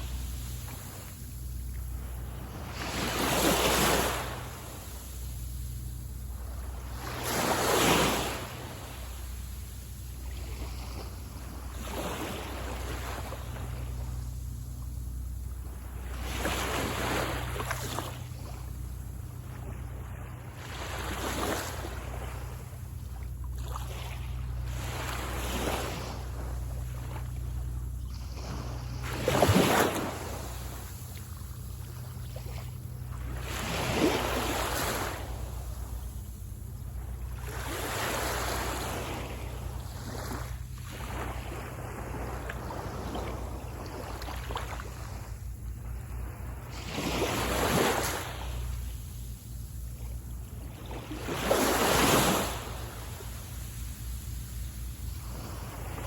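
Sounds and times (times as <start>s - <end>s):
small waves breaking on sand: 0.0s - 56.0s
steady low rumble: 0.0s - 56.0s.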